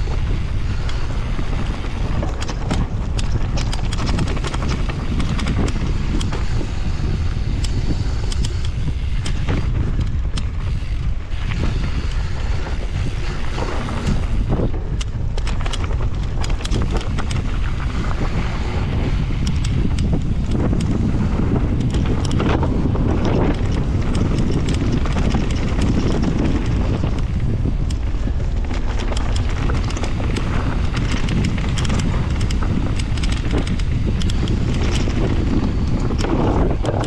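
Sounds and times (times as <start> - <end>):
bike clicks and rattles: 0.0 - 37.0
wind noise on microphone: 0.0 - 37.0.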